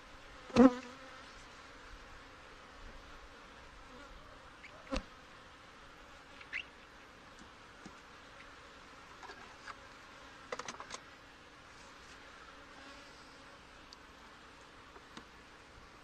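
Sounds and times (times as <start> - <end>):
bees buzzing: 0.4 - 15.8.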